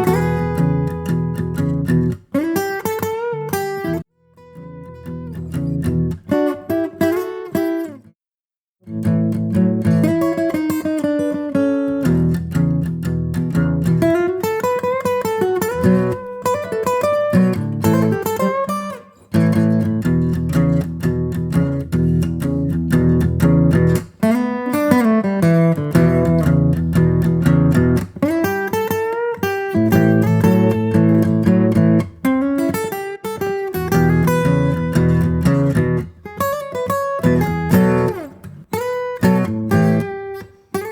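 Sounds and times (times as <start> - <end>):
acoustic guitar plucked notes: 0.0 - 7.8, 9.0 - 40.9.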